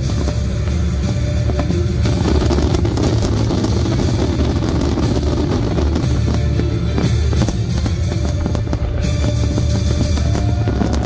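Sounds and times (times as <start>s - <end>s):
heavy bass drum: 0.0s - 11.0s
loud music with drum beat: 0.0s - 11.0s.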